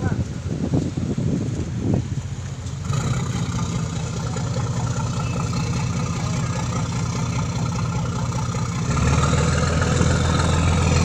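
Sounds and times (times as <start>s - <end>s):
ferry diesel engines humming: 0.0s - 11.0s.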